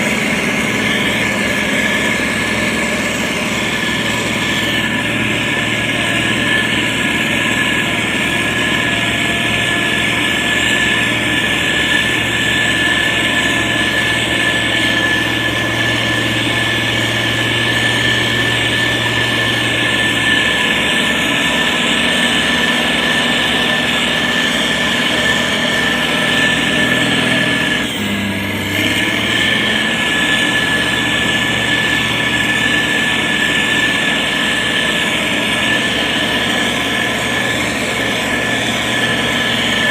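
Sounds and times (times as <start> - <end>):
diesel engine running: 0.0 - 39.9
high whine: 0.0 - 39.9.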